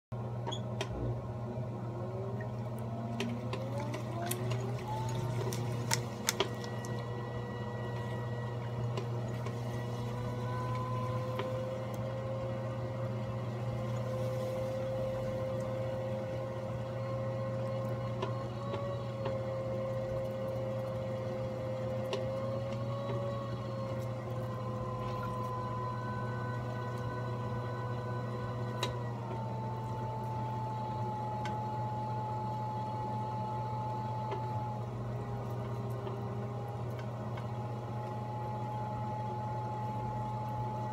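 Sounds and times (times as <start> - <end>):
pottery wheel motor humming and whining: 0.0 - 40.9.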